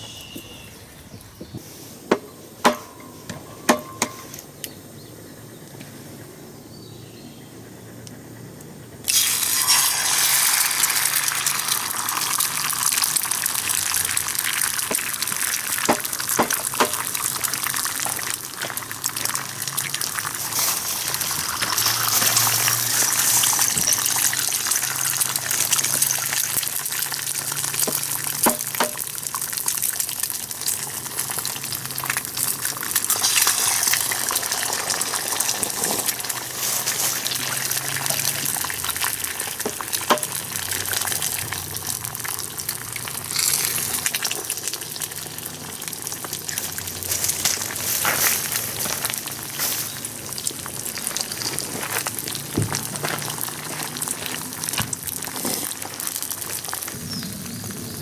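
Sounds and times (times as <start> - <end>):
wood fire crackling: 10.8 - 58.0.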